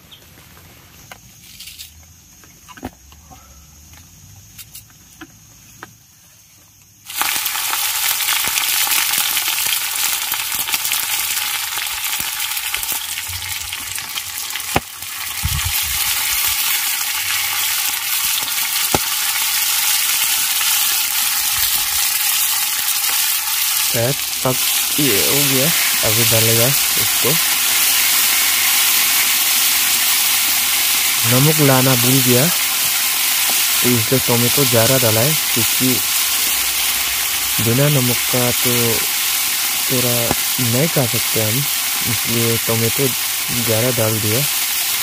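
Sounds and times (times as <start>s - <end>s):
food sizzling in hot oil: 7.0s - 45.0s.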